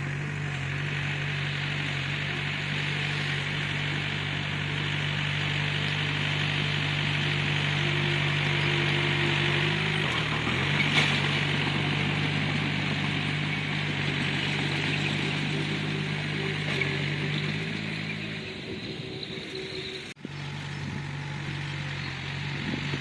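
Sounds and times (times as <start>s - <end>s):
bulldozer diesel engine: 0.0s - 23.0s.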